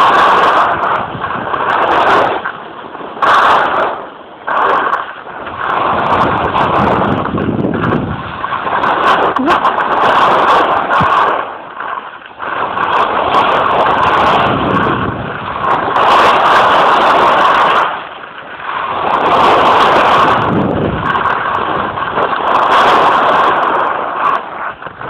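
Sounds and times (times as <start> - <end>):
skis scraping on snow: 0.0 - 25.0
wind buffeting microphone: 0.0 - 25.0.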